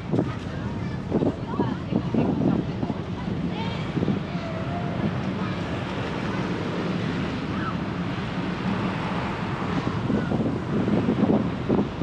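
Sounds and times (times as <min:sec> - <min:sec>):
road traffic hum: 0:00.0 - 0:12.0
wind on microphone: 0:00.0 - 0:12.0.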